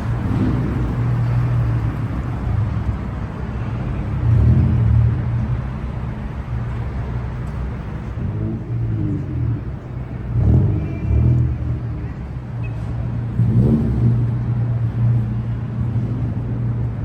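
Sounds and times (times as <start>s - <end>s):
car engine exhaust rumble: 0.0s - 17.0s.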